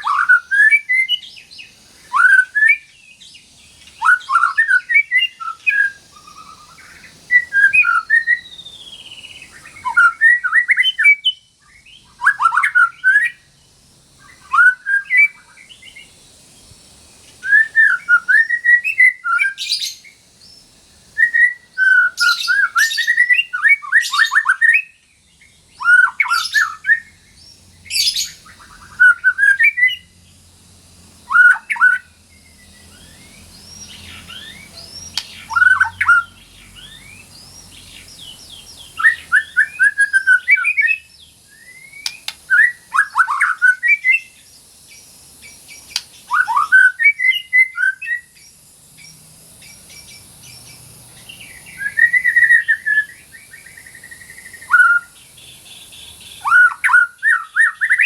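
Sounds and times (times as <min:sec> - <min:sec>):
bird singing whistles and chirps: 0:00.0 - 0:30.4, 0:31.2 - 0:58.0.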